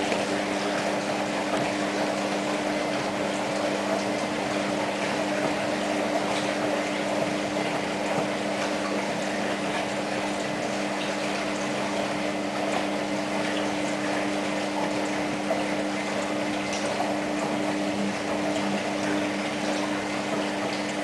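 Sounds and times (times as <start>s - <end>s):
low electric hum: 0.0s - 20.0s
water rushing in washing machine: 0.0s - 21.0s.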